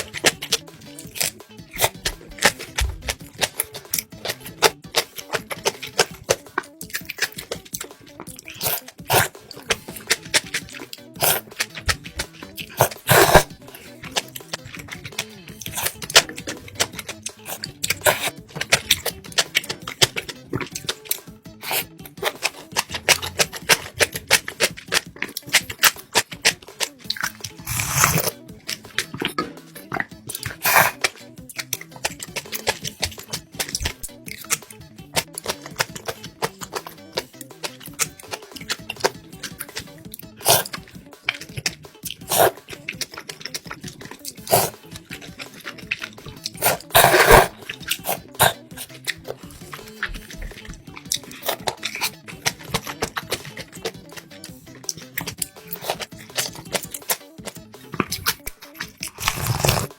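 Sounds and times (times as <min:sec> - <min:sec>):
noisy eating bursts: 0:00.0 - 0:59.9
noodle slurping: 0:00.0 - 0:59.9
wet chewing and crunching: 0:00.0 - 0:59.9.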